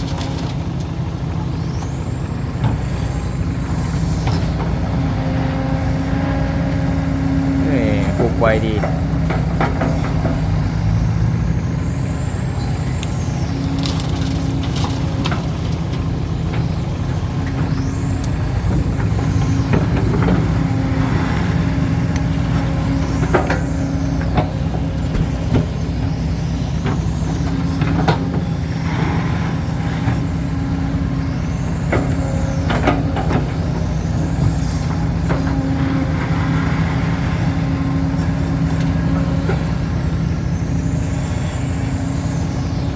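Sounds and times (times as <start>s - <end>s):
excavator diesel engine running: 0.0s - 42.9s
hydraulic whine: 0.0s - 42.9s.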